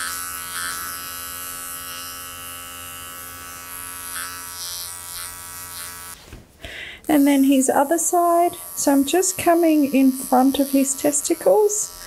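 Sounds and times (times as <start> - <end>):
electric hair clipper buzzing: 0.0 - 6.2, 7.1 - 12.0.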